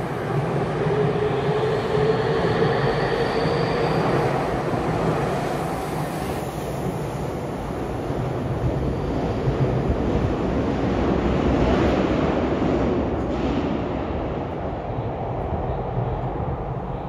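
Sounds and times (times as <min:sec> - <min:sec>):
electric train running in tunnel: 0:00.0 - 0:17.0.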